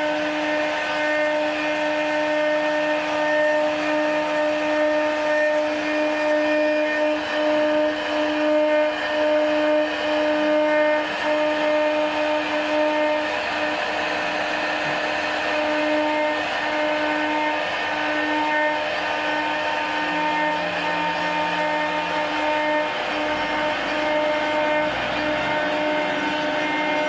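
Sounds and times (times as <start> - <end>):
motor whine: 0.0 - 27.0.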